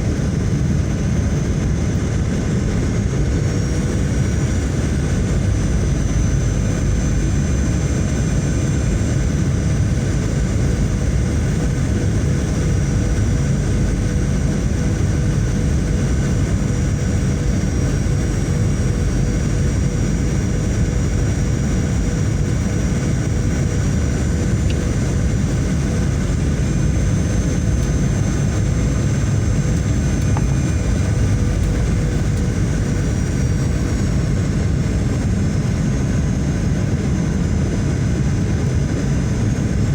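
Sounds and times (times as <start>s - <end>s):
airliner cabin engine noise: 0.0s - 39.9s
faint steady whines: 0.0s - 39.9s.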